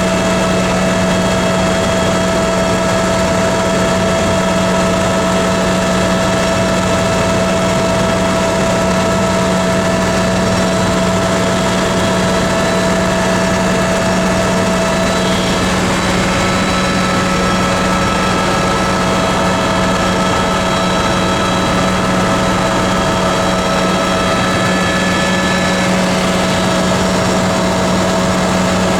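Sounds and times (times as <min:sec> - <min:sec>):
helicopter engine and rotor drone: 0:00.0 - 0:28.9
whining tones: 0:00.2 - 0:28.9.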